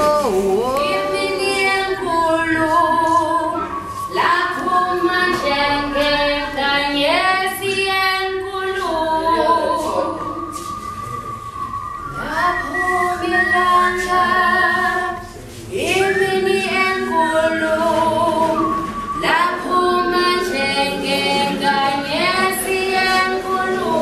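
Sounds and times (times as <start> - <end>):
group singing in harmony: 0.0 - 24.0.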